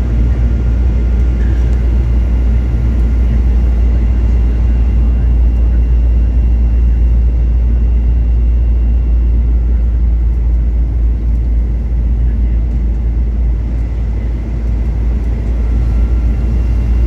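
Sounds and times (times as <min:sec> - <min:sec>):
airplane cabin engine rumble: 0:00.0 - 0:17.0
faint steady whine: 0:00.0 - 0:17.0.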